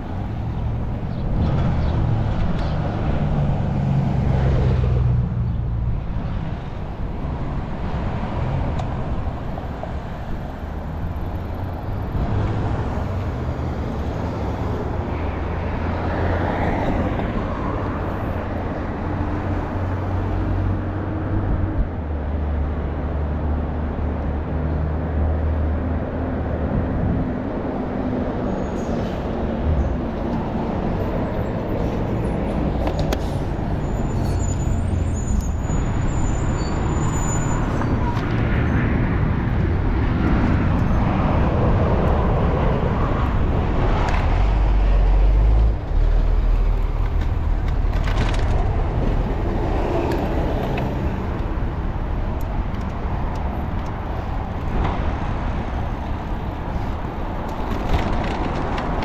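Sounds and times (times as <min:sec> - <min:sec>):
traffic passing: 0:00.0 - 0:59.0.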